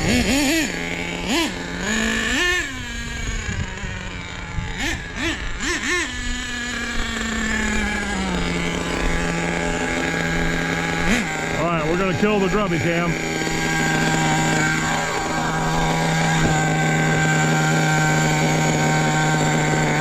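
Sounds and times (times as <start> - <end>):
engine throttle blips: 0.0 - 20.0
rc truck engine idling: 0.0 - 20.0.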